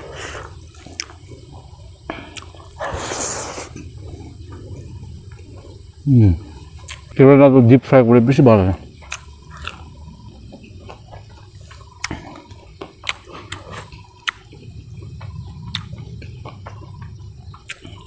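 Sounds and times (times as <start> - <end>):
person chewing with mouth noises: 0.0 - 7.2, 9.0 - 17.0, 17.6 - 18.0.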